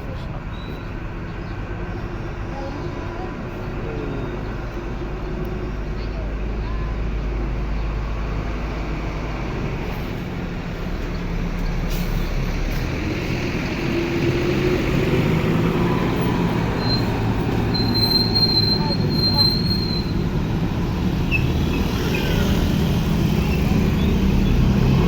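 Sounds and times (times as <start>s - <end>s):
large vehicle engine running: 0.0s - 25.0s.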